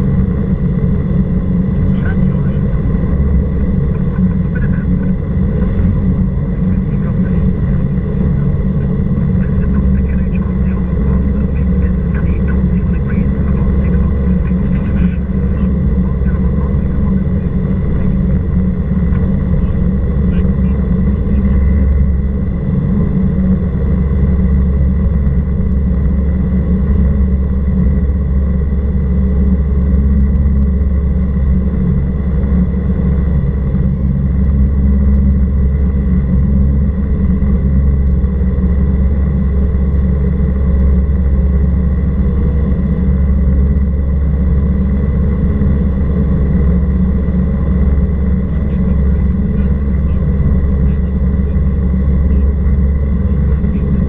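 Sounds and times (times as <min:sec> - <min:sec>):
aircraft engine droning: 0:00.0 - 0:54.0
thin steady whine: 0:00.0 - 0:54.0.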